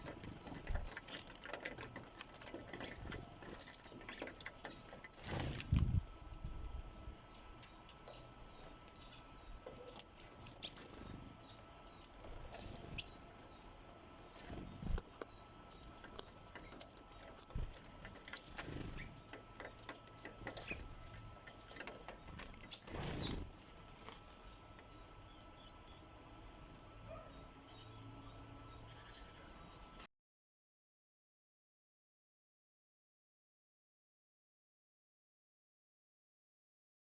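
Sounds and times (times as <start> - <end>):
beaks pecking at feeder: 0.0 - 30.0
sparrows chirping: 0.0 - 30.1.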